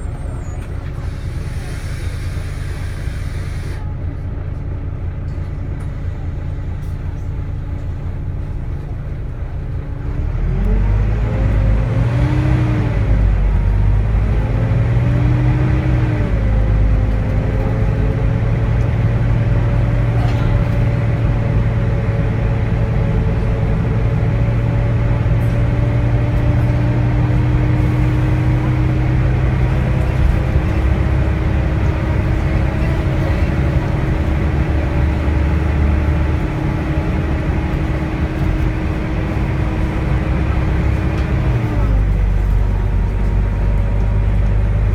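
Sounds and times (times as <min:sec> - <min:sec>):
bus diesel engine pulling uphill: 0:00.0 - 0:44.9
engine whine: 0:00.0 - 0:44.9.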